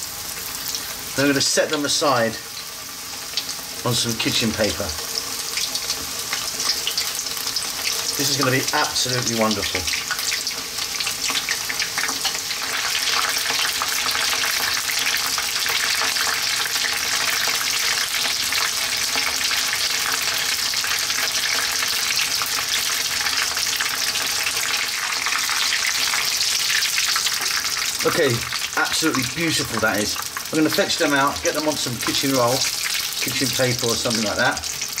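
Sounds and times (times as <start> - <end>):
fish deep-frying in oil: 0.0 - 35.0.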